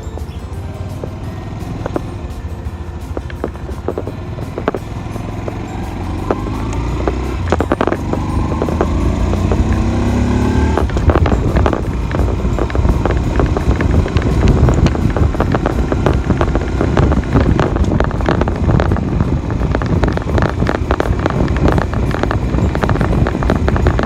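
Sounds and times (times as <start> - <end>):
motorcycle engine running: 0.0 - 24.0
sharp knocks and rattles: 0.0 - 24.0.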